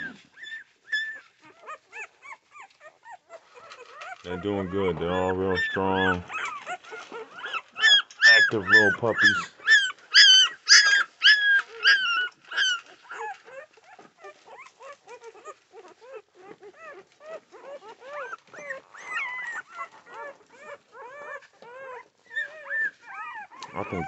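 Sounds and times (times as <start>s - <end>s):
puppies squealing and whimpering: 0.0s - 24.0s.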